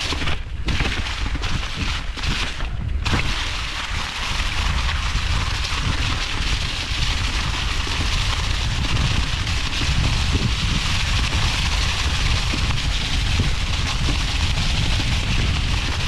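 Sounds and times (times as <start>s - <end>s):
bike tyres on dirt trail: 0.0s - 16.0s
wind buffeting microphone: 0.0s - 16.0s.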